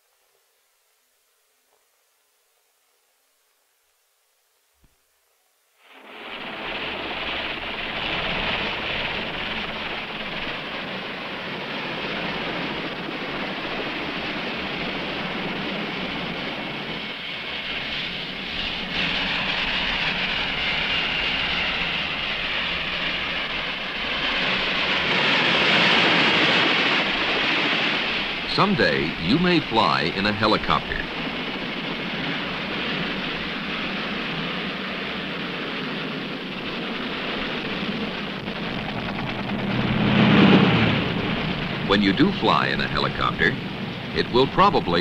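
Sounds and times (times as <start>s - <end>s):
helicopter rotor chop: 6.0s - 45.0s.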